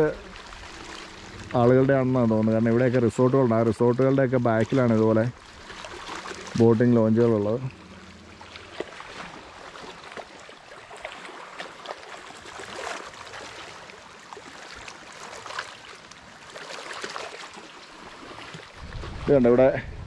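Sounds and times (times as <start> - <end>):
waves lapping against dock: 0.0 - 20.0.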